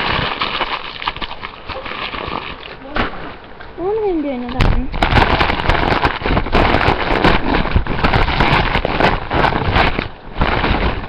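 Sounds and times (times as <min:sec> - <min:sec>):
packaging crinkling and rustling: 0:00.0 - 0:03.5, 0:04.4 - 0:11.0.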